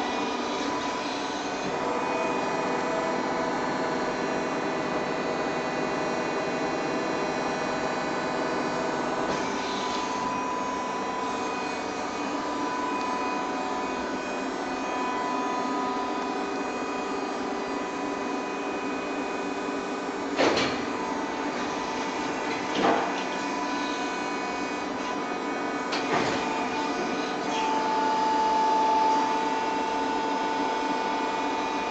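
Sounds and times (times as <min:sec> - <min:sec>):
machine hydraulic pump hum: 0:00.0 - 0:31.9.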